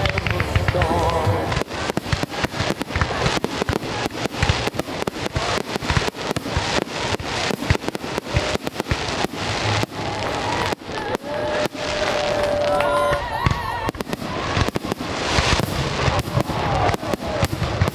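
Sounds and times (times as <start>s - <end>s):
fireworks bangs and pops: 0.0s - 17.9s.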